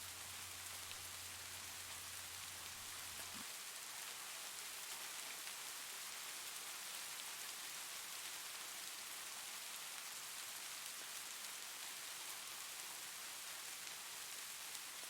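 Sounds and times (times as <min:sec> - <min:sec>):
soft rain hiss: 0:00.0 - 0:15.0.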